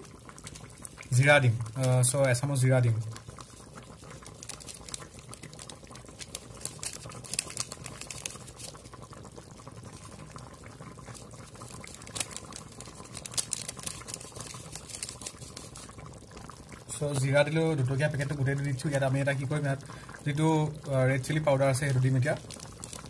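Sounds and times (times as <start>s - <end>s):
curry boiling with popping bubbles: 0.0s - 23.0s.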